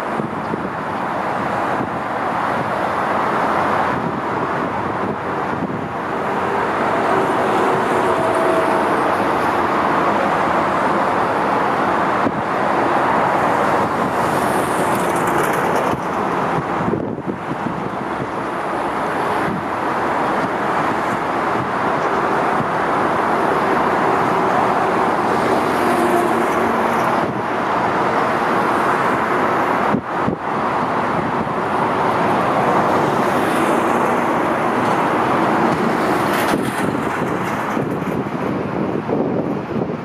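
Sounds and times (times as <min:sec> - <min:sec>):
jet engines rushing: 0:00.0 - 0:40.0.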